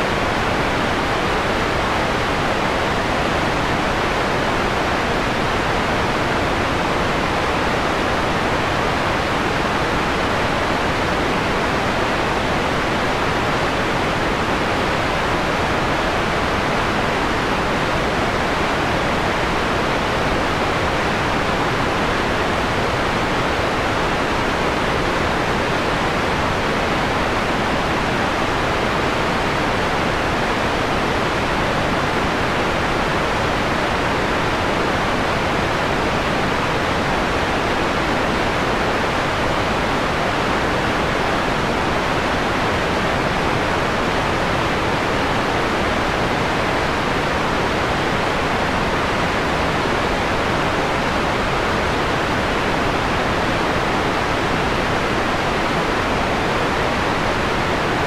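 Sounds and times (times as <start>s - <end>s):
muffled white noise hiss: 0.0s - 58.0s.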